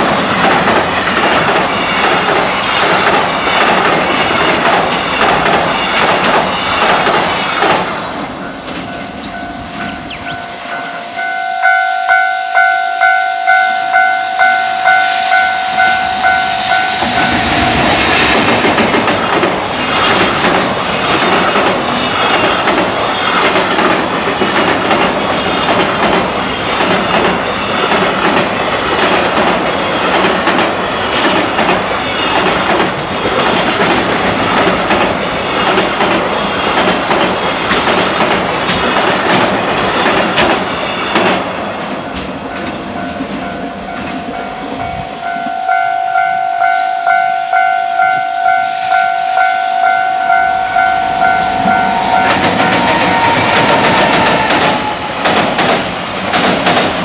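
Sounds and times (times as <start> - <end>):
freight train wheels clattering: 0.0 - 11.2, 15.5 - 45.6, 50.8 - 57.0.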